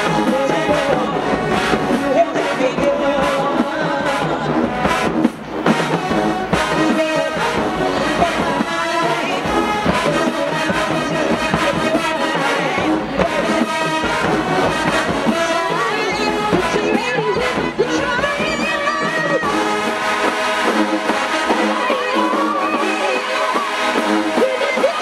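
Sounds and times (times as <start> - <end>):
brass section: 0.0 - 25.0
drum beats: 0.0 - 25.0
marching band playing: 0.0 - 25.0.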